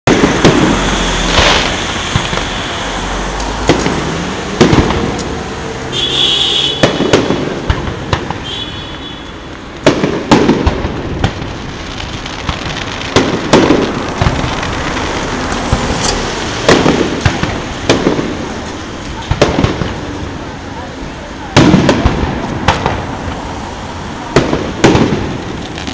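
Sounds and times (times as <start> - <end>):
firework shells booming: 0.1 - 20.4, 21.5 - 25.9
firework crackling: 0.1 - 25.9.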